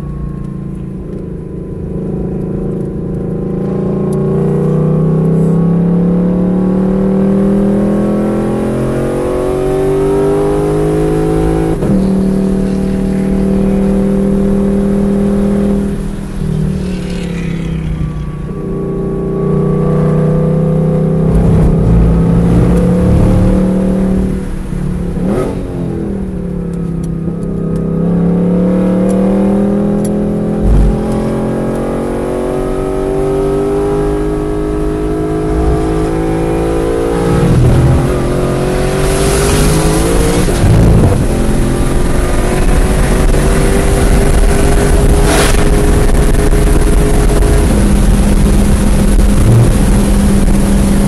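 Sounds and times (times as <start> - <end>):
race car engine accelerating: 1.8 - 51.0.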